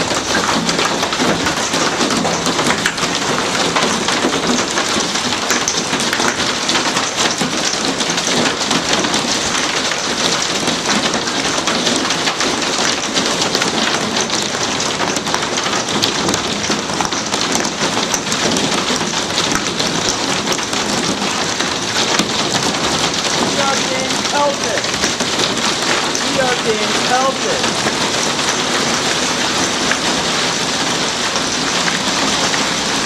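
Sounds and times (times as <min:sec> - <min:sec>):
hail and rain on glass: 0:00.0 - 0:33.0.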